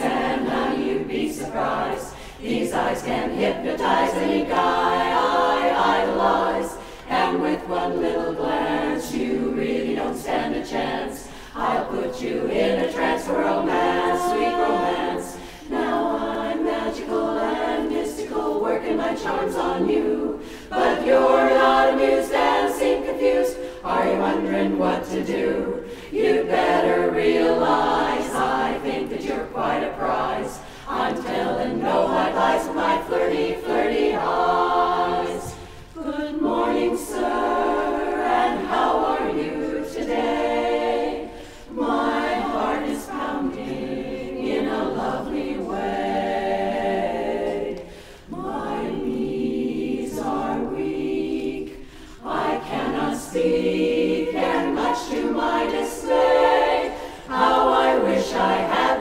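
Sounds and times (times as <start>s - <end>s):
women's chorus singing a cappella: 0.0s - 59.0s.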